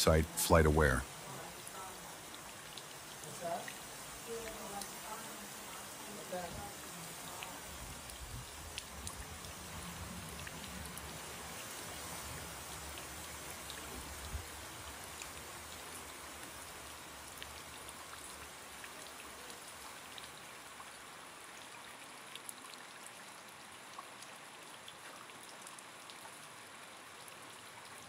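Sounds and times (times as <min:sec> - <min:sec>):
sharp ticks of raindrops: 0:00.0 - 0:28.0
steady rain falling: 0:00.0 - 0:28.0.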